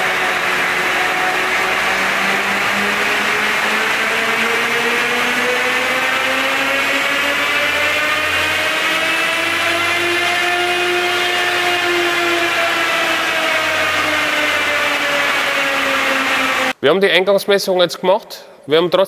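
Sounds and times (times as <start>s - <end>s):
diesel truck engine under full load: 0.0s - 16.8s.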